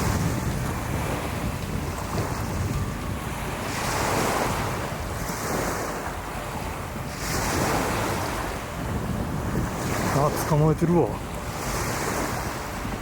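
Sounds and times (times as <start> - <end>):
surf breaking on a beach: 0.0 - 13.0
wind buffeting microphone: 0.0 - 13.0.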